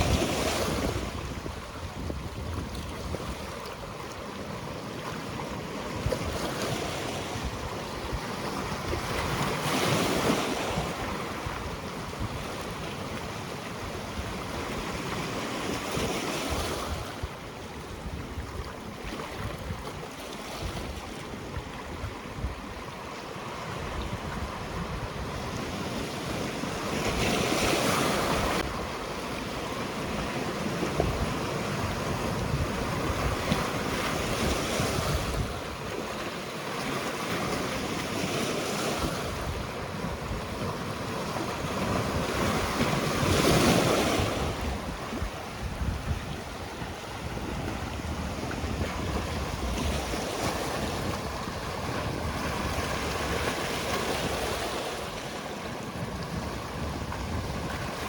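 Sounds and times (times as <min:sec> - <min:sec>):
sea waves breaking on shore: 0:00.0 - 0:58.0
wind rumble on microphone: 0:00.0 - 0:58.0.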